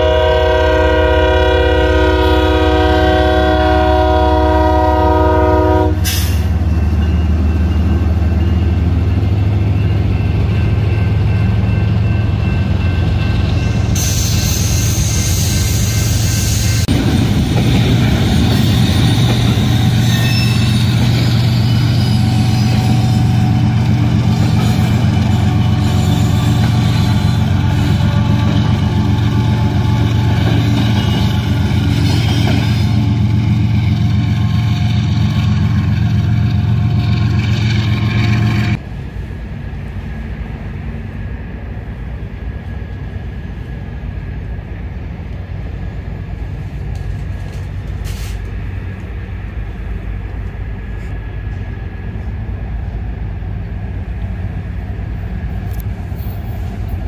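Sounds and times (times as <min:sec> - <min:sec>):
diesel locomotive engine drone: 0:00.0 - 0:57.0
rail yard background noise: 0:00.0 - 0:57.0.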